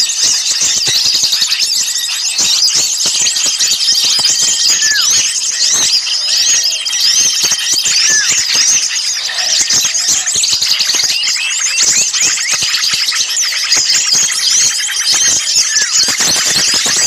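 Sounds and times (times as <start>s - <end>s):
small songbirds chirping and trilling: 0.0s - 17.0s.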